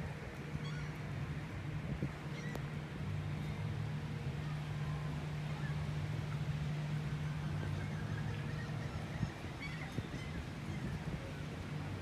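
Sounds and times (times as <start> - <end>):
ship engine drone: 0.1 - 12.0.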